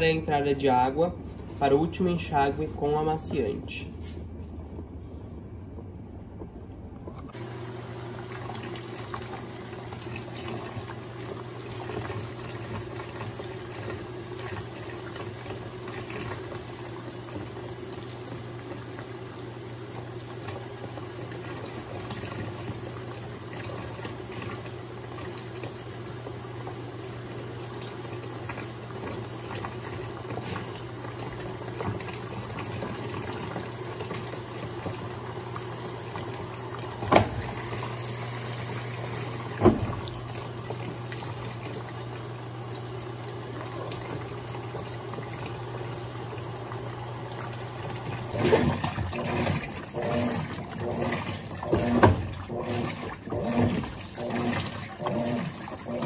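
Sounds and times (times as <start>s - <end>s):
washing machine hum: 0.0s - 56.0s
water running into washing machine: 7.3s - 56.0s.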